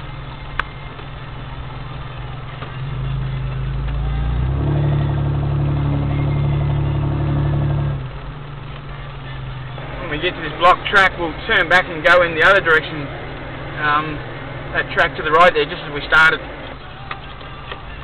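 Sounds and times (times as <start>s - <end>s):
vehicle engine drone from inside cabin: 0.0s - 18.0s.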